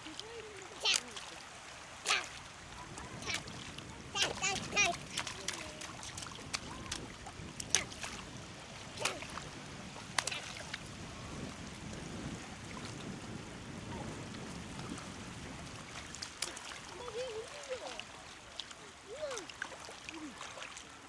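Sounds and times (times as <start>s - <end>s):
sharp water splashes: 0.0s - 12.0s, 15.6s - 21.0s
water washing: 0.0s - 21.0s.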